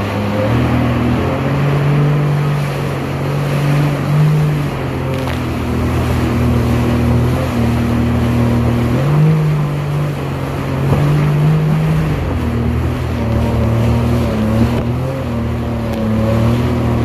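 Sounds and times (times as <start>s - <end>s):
jet ski engine: 0.0s - 17.0s
water rushing and spray: 0.0s - 17.0s.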